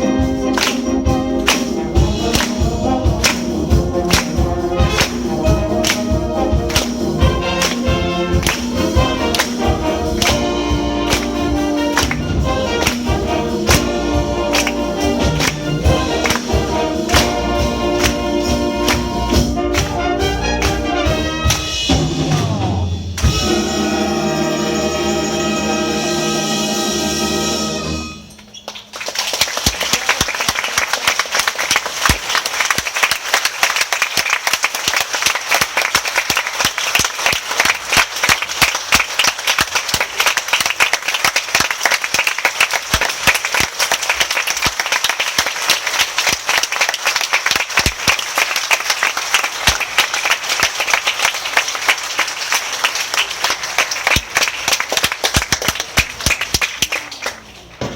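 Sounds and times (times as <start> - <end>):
audience applauding: 0.0 - 21.7, 28.4 - 57.9.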